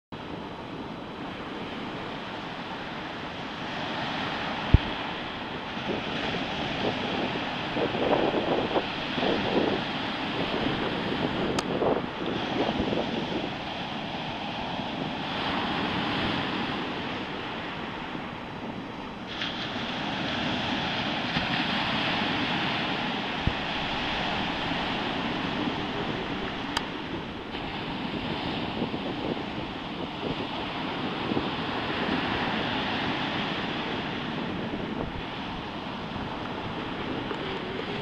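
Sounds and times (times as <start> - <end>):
waves surging and breaking: 0.2 - 38.0
wind buffeting microphone: 0.2 - 38.0.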